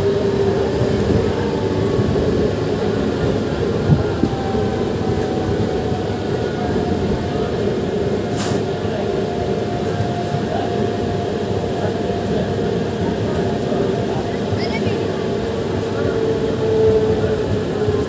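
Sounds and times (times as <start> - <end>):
faint train whine: 0.0 - 18.0
train wheels rumbling on track: 0.0 - 18.0.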